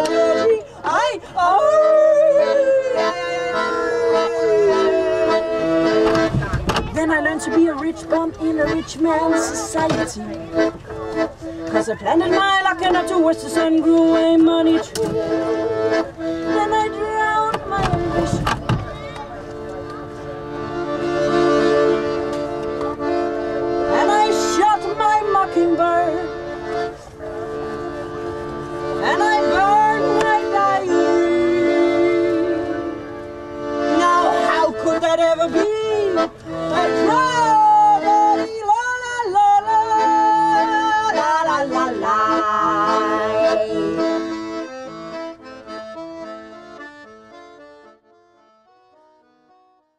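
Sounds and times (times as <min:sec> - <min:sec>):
instrumental music with held chords: 0:01.6 - 0:49.9.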